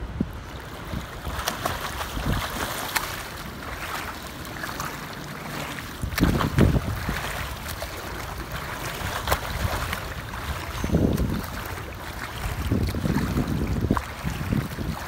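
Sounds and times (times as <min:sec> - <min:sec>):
wind buffeting microphone: 0:00.0 - 0:04.0, 0:05.8 - 0:15.0
children splashing while swimming: 0:01.1 - 0:15.0.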